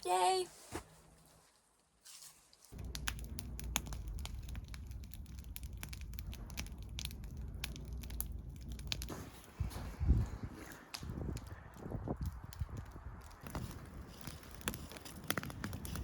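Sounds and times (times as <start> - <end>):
campfire crackling and popping: 2.7 - 16.0
low rumble: 2.8 - 16.0.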